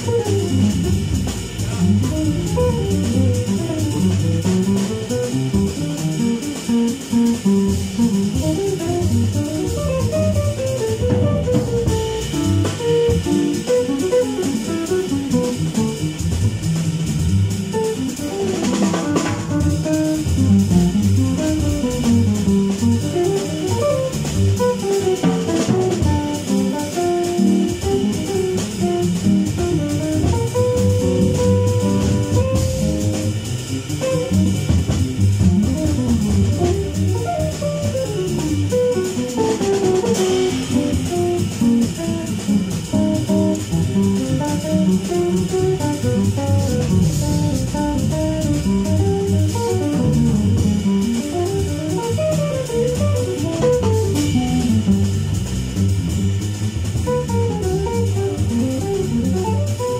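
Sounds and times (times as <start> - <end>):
drum kit with cymbals: 0.0 - 59.9
jazz guitar lines: 0.0 - 59.9
walking bass: 0.0 - 59.9.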